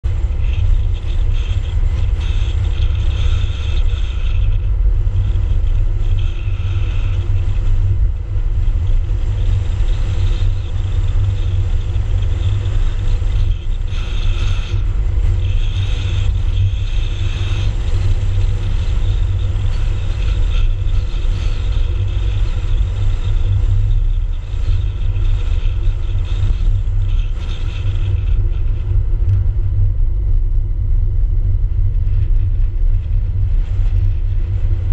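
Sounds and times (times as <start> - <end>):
wind and road noise rumble: 0.0 - 34.9.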